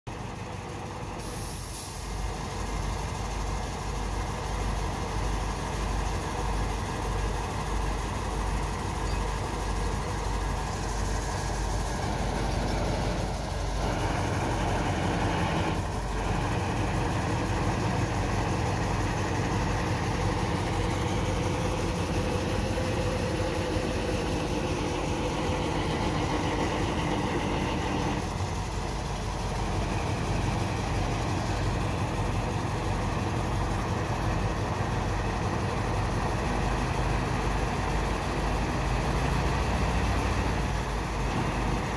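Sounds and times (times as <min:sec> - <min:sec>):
heavy diesel engine running: 0:00.1 - 0:41.9.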